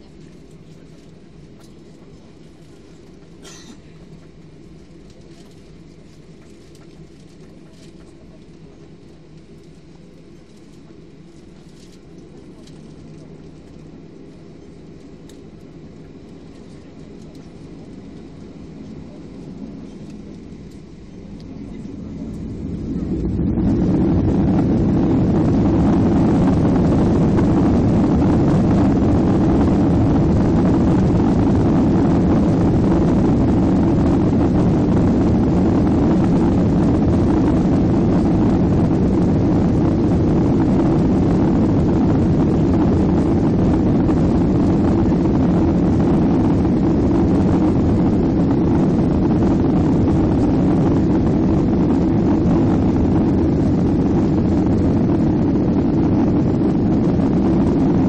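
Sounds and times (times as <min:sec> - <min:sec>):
jet engines at take-off: 0:00.0 - 0:58.0.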